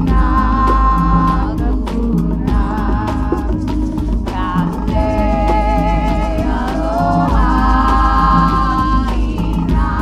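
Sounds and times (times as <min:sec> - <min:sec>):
deep bass: 0:00.0 - 0:10.0
percussive beat: 0:00.0 - 0:10.0.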